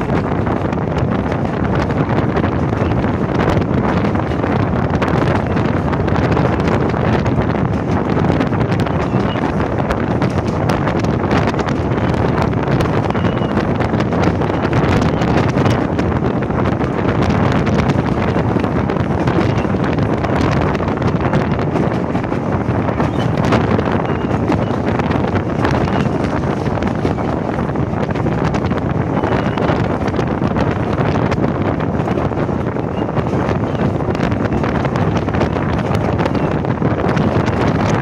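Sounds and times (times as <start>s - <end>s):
train rumbling along track: 0.0s - 38.0s
wind buffeting microphone: 0.0s - 38.0s.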